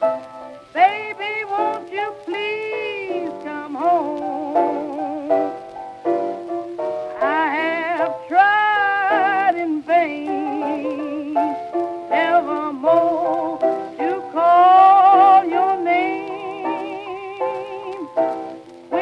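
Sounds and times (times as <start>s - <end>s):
blues lead melody with vibrato: 0.0s - 19.0s
piano accompaniment: 0.0s - 19.0s.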